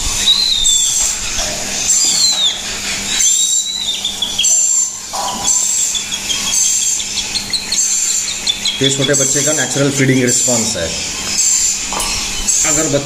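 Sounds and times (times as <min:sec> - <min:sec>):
cockatoo chick begging calls: 0:00.0 - 0:13.0.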